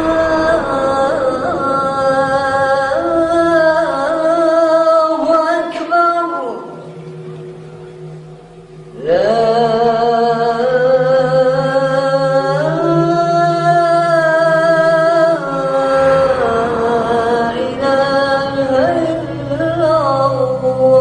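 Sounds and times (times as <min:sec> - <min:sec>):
person chanting a long note: 0:00.0 - 0:21.0
steady low drone: 0:00.0 - 0:21.0.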